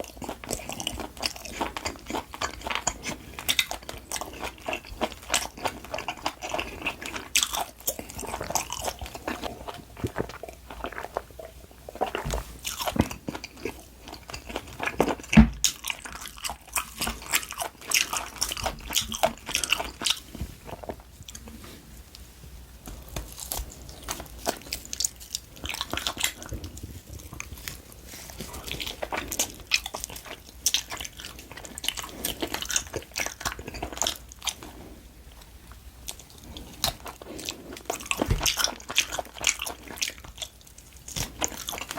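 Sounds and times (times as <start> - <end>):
chewing and biting meat: 0.0 - 21.5, 22.8 - 41.9.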